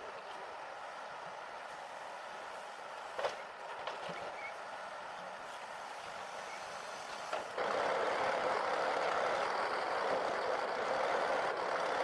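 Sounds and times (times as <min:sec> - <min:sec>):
heavy truck running: 0:00.0 - 0:12.0.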